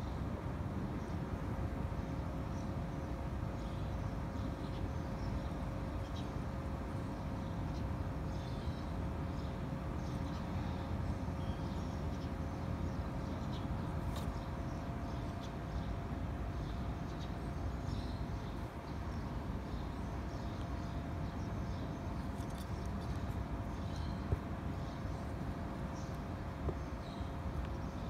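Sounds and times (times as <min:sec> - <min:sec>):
faint constant hum: 0:00.0 - 0:28.0.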